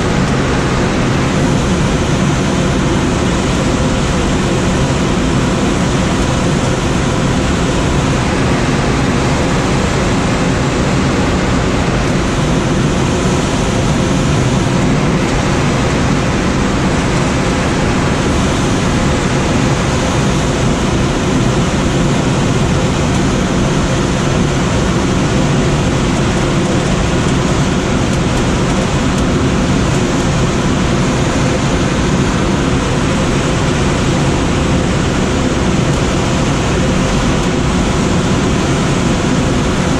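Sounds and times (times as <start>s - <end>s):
rush of air past cockpit: 0.0s - 39.9s.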